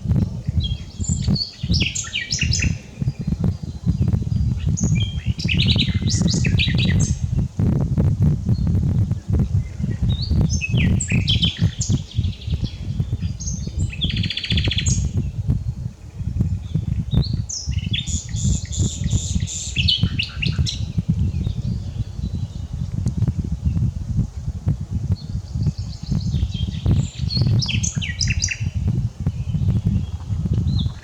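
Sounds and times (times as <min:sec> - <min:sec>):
nightingale singing: 0:00.0 - 0:07.5, 0:08.4 - 0:24.0, 0:25.1 - 0:31.0
low rumble: 0:00.0 - 0:31.0.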